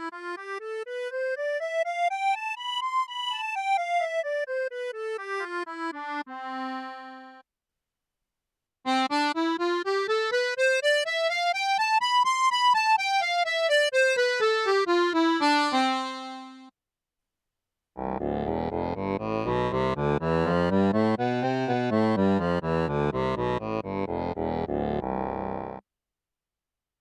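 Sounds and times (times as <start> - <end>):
accordion playing scales: 0.0 - 7.4, 8.9 - 16.7, 18.0 - 25.8.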